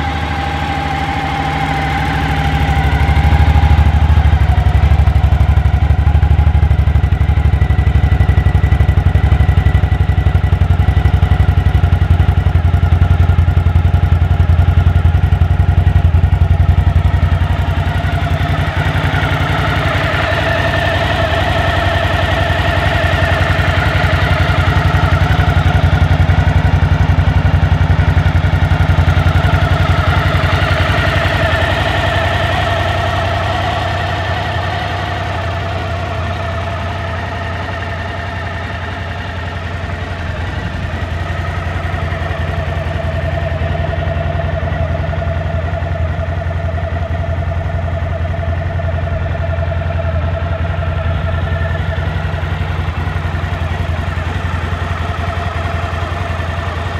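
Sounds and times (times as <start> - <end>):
motorcycle engine idling: 0.0 - 56.9.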